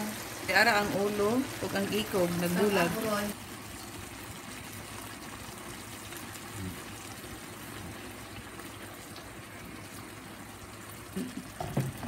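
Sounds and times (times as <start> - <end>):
sauce bubbling in a frying pan: 0.0 - 12.0.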